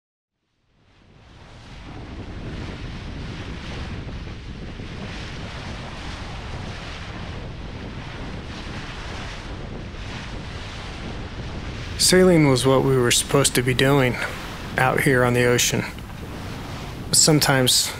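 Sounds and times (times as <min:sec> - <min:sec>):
bow wave rushing through sea: 0:00.8 - 0:17.9
wind buffeting microphone: 0:00.8 - 0:17.9.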